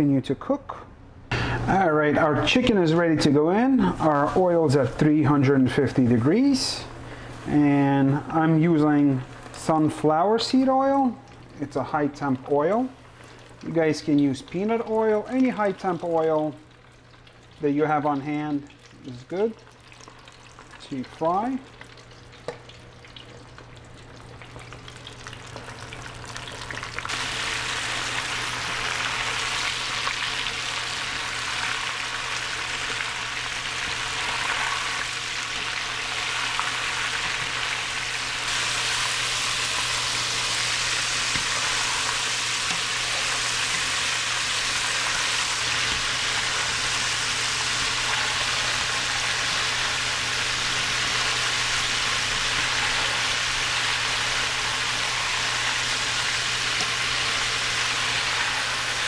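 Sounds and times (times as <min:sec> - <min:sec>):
chicken deep-frying in oil: 0:07.3 - 0:59.0.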